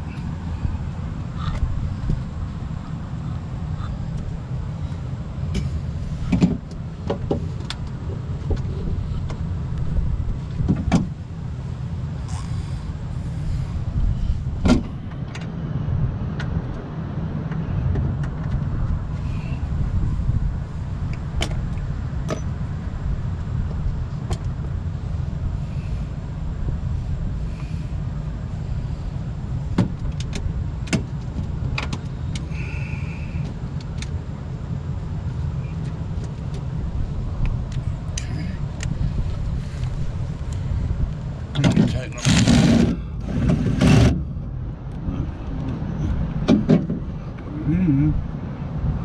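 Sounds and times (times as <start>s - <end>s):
low rumble: 0.0s - 49.0s.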